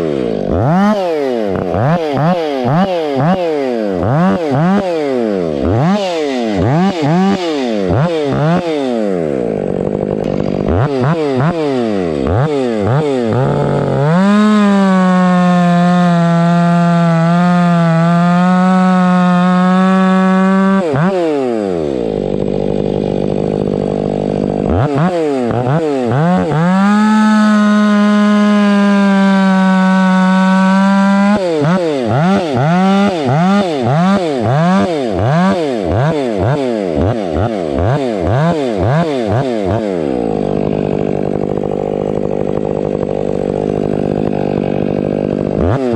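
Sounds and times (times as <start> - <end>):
chainsaw cutting wood: 0.0 - 45.9
chainsaw revving: 0.0 - 45.9.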